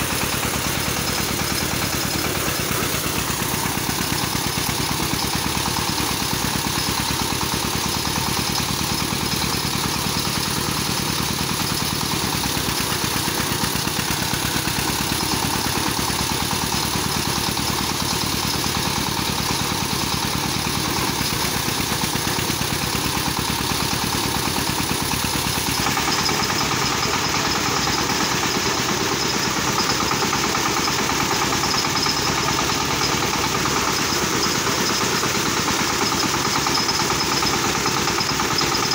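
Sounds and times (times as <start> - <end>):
diesel engine running thresher: 0.0 - 38.9.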